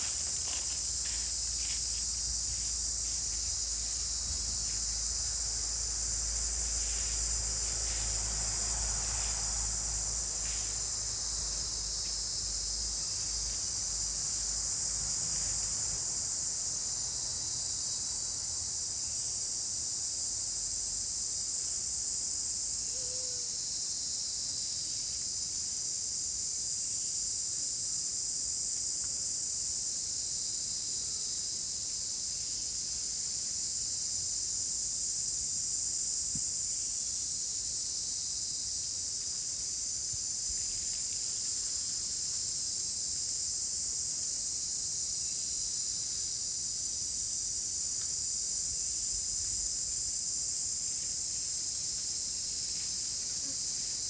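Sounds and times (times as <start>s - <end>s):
insect chorus drone: 0.0s - 54.0s.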